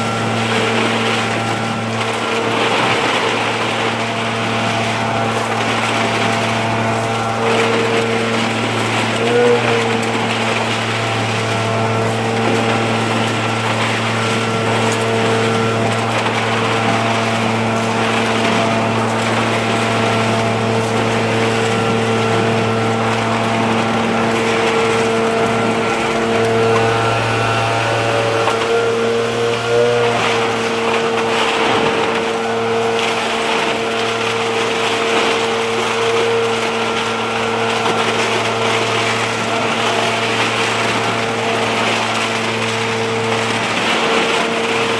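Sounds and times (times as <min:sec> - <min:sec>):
leaf blower engine running: 0:00.0 - 0:44.9.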